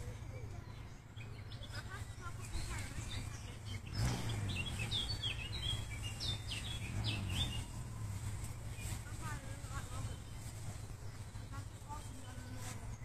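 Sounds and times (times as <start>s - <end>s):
low steady rumble: 0.0s - 13.0s
songbirds chirping: 0.0s - 13.0s.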